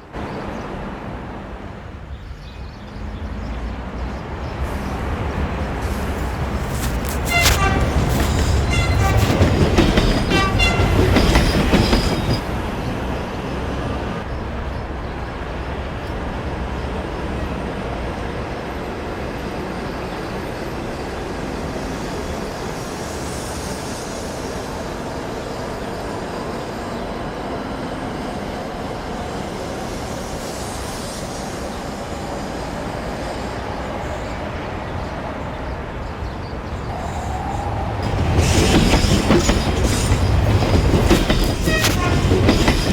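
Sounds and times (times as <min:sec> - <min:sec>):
railroad cars rumbling: 0:00.0 - 0:42.9
high tonal train squeal: 0:04.6 - 0:14.8, 0:17.3 - 0:42.9.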